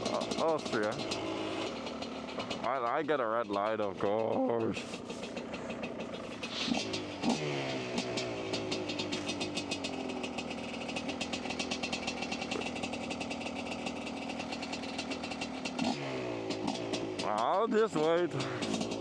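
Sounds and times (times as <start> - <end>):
dirt bike engine idling: 0.0 - 19.0
dirt bike engine revving: 0.0 - 19.0.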